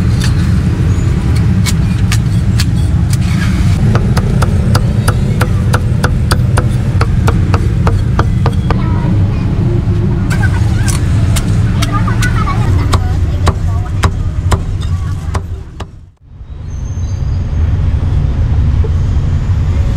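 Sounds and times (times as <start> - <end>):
low rumble of street traffic: 0.0 - 19.9.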